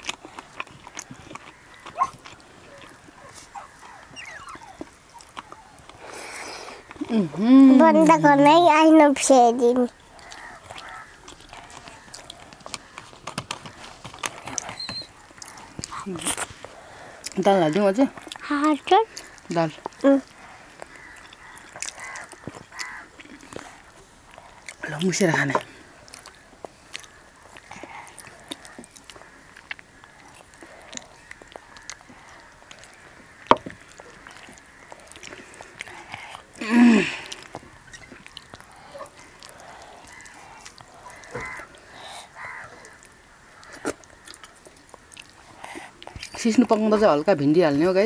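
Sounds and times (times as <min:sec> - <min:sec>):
chewing and lip smacks: 0:00.0 - 0:07.1, 0:09.9 - 0:47.1.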